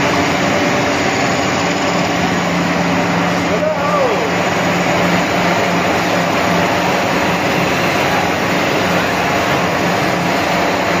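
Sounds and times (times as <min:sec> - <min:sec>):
production line machinery running: 0:00.0 - 0:11.0.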